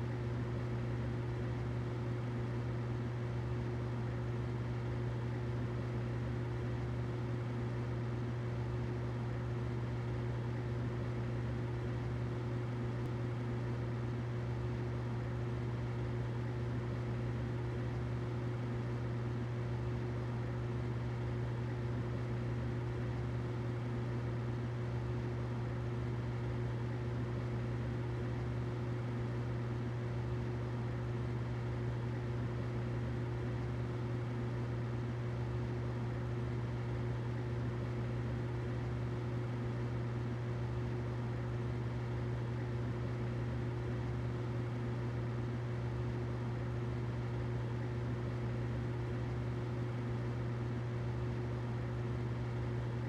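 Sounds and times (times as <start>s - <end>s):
humidifier running: 0.0s - 53.0s.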